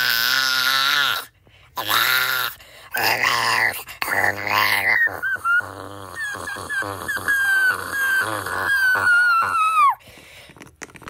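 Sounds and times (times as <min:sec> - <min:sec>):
high-pitched whining vocal cry: 0:00.0 - 0:10.0.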